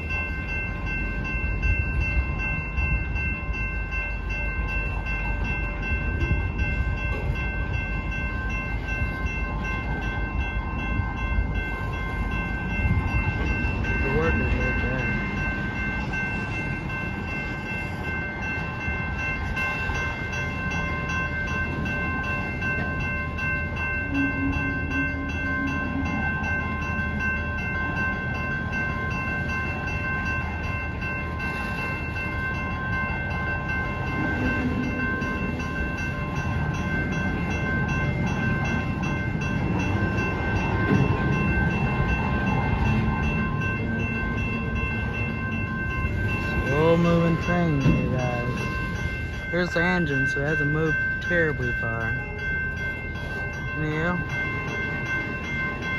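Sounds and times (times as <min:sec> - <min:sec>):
crossing warning bell ringing: 0:00.0 - 0:55.9
train flatcars rumbling on rails: 0:00.0 - 0:55.9.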